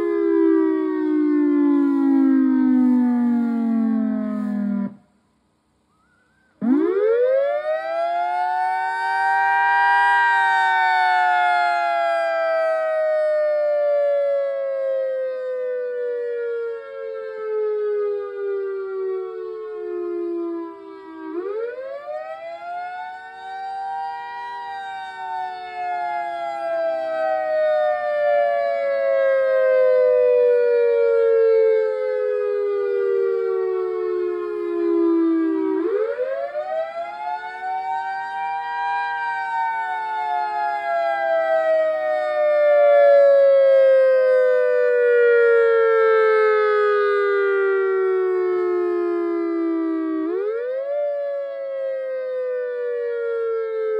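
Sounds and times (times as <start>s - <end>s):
warning siren wailing: 0.0s - 5.1s, 5.8s - 53.9s.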